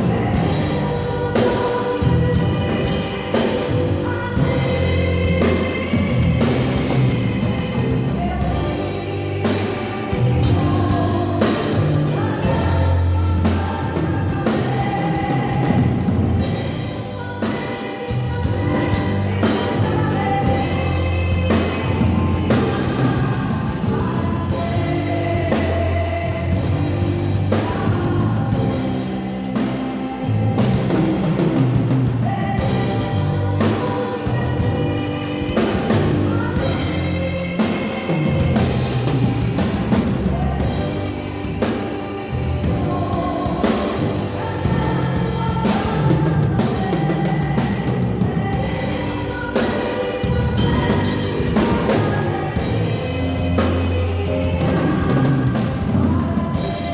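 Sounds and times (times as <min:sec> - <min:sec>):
gospel band music: 0:00.0 - 0:56.9.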